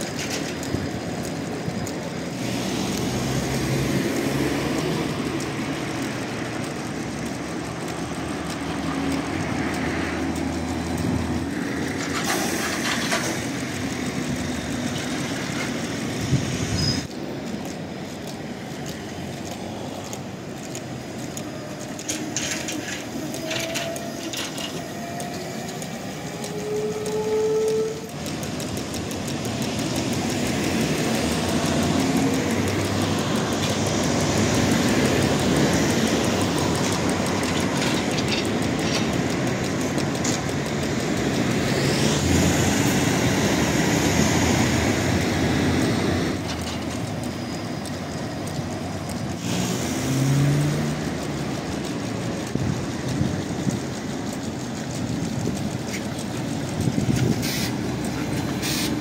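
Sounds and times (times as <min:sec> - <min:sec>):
street traffic: 0:00.0 - 0:59.0
trolleybus motor whine: 0:00.0 - 0:59.0.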